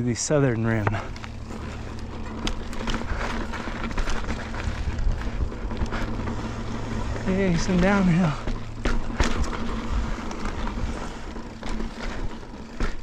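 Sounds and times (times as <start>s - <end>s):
bike clicks and rattles: 0.1s - 13.0s
bike tyres rumbling on rock: 0.2s - 13.0s.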